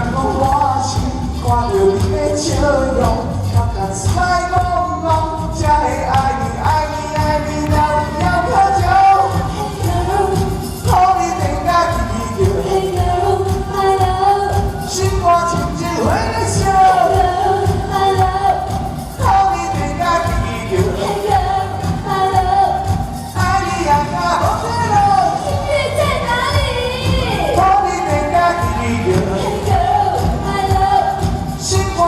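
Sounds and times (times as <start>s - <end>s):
live pop band music: 0.0s - 32.0s.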